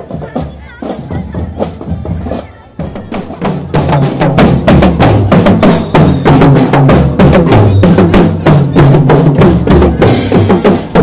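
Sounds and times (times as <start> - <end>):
marching drum band: 0.0 - 11.0.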